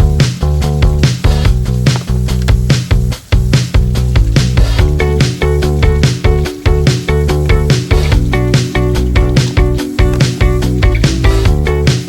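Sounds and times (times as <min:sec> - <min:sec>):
upbeat funk music: 0:00.0 - 0:12.0.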